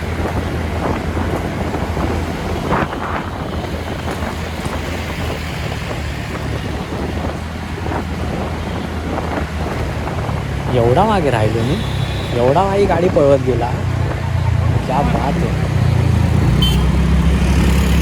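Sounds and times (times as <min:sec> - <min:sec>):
scooter engine droning: 0:00.0 - 0:18.0
wind rushing over microphone: 0:00.0 - 0:18.0.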